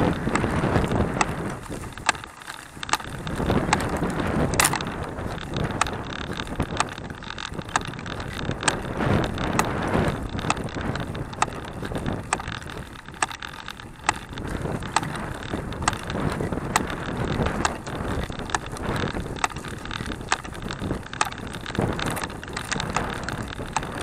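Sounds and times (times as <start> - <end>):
tyres and chain on gravel: 0.0 - 24.0
wind on microphone: 0.0 - 24.0.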